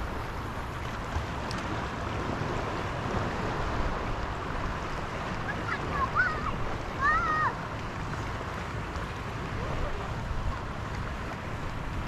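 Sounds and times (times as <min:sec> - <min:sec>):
shallow sea water washing: 0:00.0 - 0:12.0.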